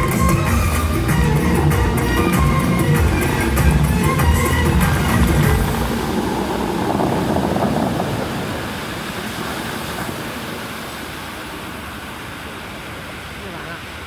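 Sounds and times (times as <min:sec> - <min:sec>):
fountain music: 0:00.0 - 0:14.0
water jets splashing into lake: 0:00.0 - 0:14.0.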